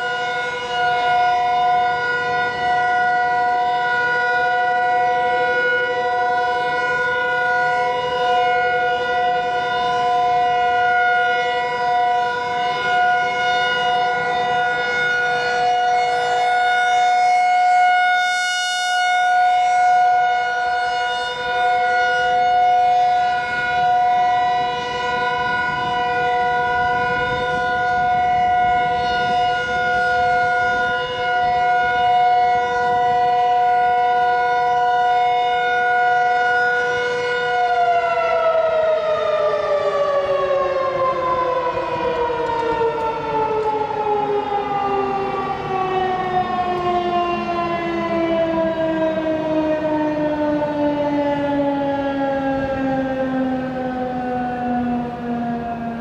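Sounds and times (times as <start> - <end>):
warning siren steady tone: 0.0 - 56.0.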